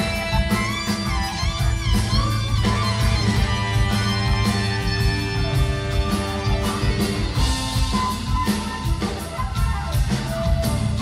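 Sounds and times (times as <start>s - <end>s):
bass guitar: 0.0s - 11.0s
drum kit: 0.0s - 11.0s
electric guitar: 0.0s - 11.0s
flute melody notes: 0.0s - 11.0s
keyboards: 0.0s - 11.0s.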